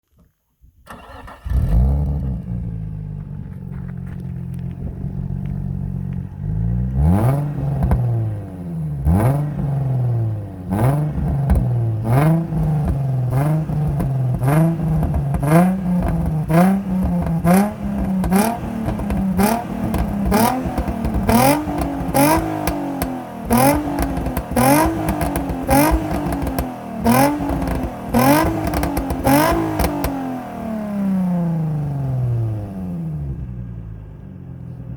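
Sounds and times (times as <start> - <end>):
car engine starting and revving: 0.8 - 34.9.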